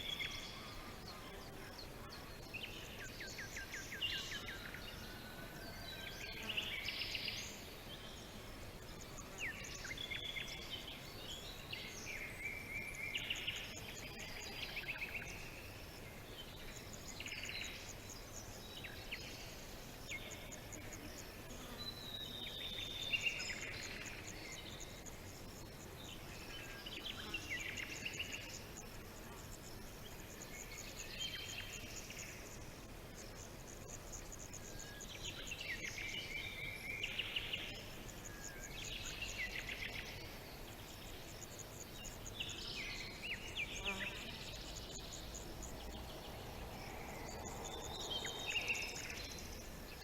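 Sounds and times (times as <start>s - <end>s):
insect chorus: 0.0s - 50.0s.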